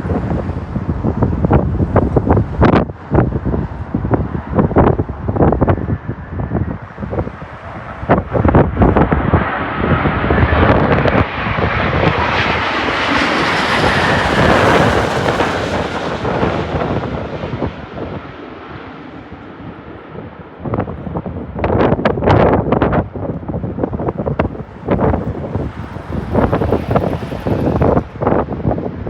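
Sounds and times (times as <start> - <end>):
wind buffeting microphone: 0.0 - 18.4, 19.2 - 29.0
jet airliner passing overhead: 0.0 - 29.0.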